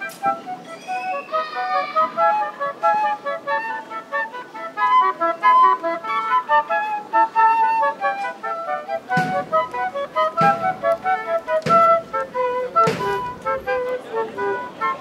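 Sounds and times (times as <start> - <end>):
flute melody: 0.0 - 15.0
second woodwind playing: 0.0 - 15.0.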